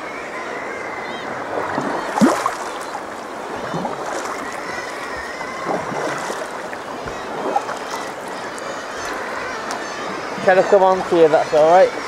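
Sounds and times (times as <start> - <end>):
water lapping against kayak hull: 1.0 - 12.0.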